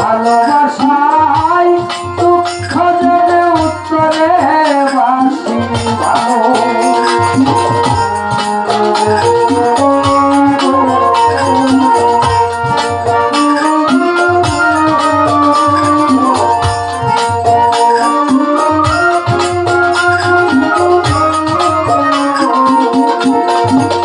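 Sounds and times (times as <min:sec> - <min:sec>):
drum beat: 0:00.0 - 0:24.0
rattling percussion: 0:00.0 - 0:24.0
sustained accompaniment: 0:00.0 - 0:24.0
violin melody: 0:00.0 - 0:24.0.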